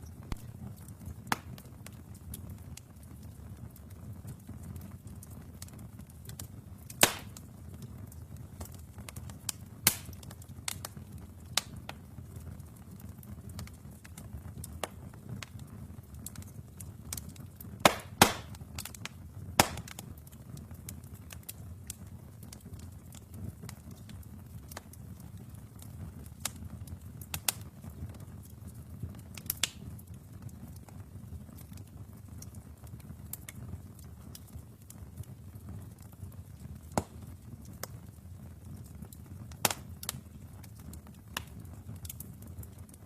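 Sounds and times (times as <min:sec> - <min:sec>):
fire crackling and popping: 0:00.0 - 0:43.0
fire rumbling: 0:00.0 - 0:43.0.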